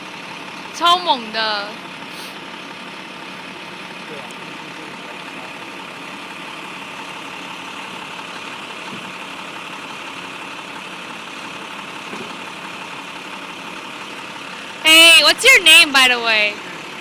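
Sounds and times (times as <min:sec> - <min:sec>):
engine idling hum: 0:00.0 - 0:17.0.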